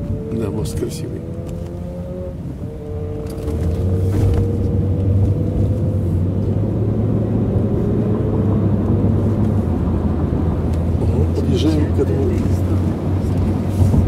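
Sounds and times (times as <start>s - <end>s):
car driving rumble from cabin: 0.0s - 14.0s.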